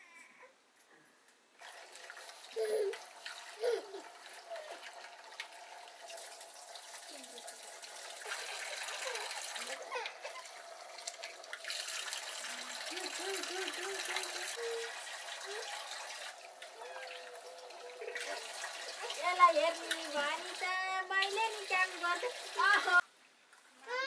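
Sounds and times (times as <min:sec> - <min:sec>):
tap water running into a pot: 0:01.6 - 0:23.0.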